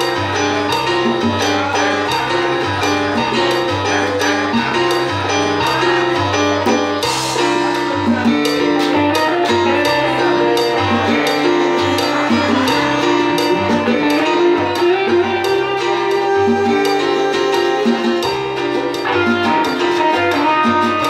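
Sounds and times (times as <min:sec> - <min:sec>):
bass line: 0:00.0 - 0:21.0
congas: 0:00.0 - 0:21.0
guitar chords: 0:00.0 - 0:21.0.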